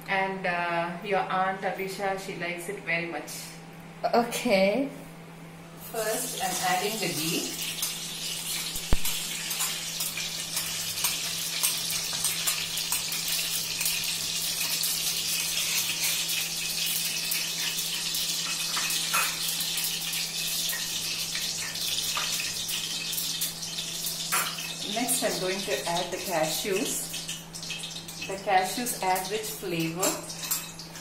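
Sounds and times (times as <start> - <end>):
ghee hissing and crackling: 5.8 - 31.0.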